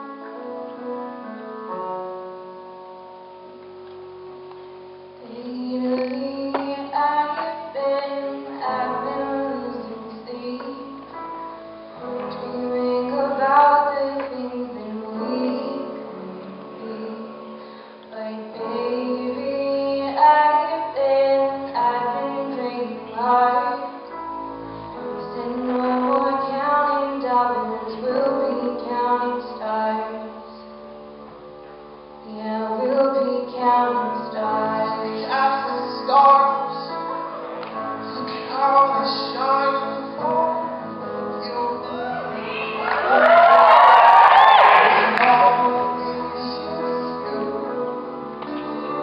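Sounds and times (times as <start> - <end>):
acoustic band playing: 3.6 - 49.0
woman singing: 5.2 - 11.3, 12.0 - 24.4, 25.0 - 30.9, 32.2 - 43.6, 44.7 - 49.0.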